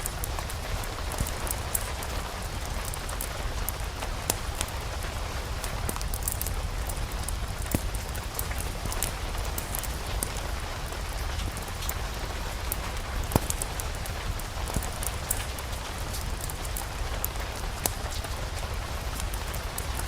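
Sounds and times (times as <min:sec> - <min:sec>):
sharp raindrop ticks: 0:00.0 - 0:20.0
steady rain: 0:00.0 - 0:20.0.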